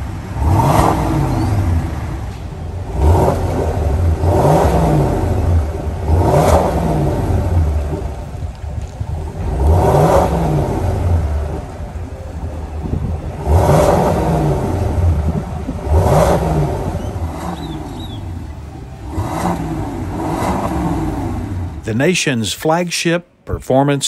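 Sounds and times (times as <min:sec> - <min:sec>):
suv engine revving: 0:00.0 - 0:22.0.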